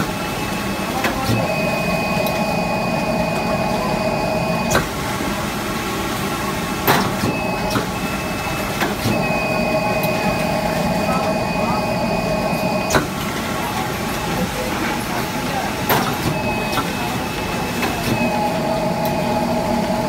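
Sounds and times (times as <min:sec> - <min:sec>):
folding machine humming with whine: 0:00.0 - 0:20.0.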